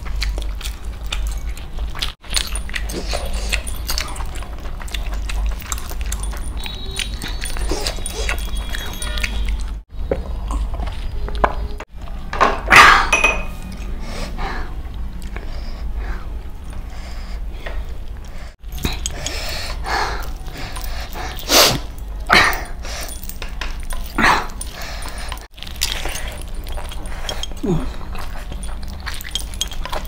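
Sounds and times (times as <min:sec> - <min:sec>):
wet chewing and lip-smacking: 0:00.0 - 0:11.5, 0:16.5 - 0:30.0.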